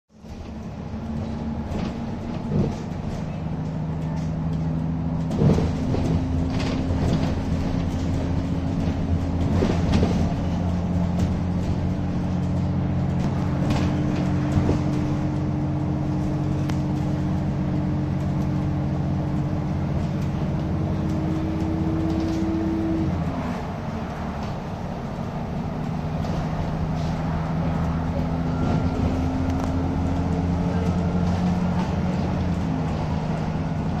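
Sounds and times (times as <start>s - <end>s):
bus engine and road noise: 0.1s - 34.0s.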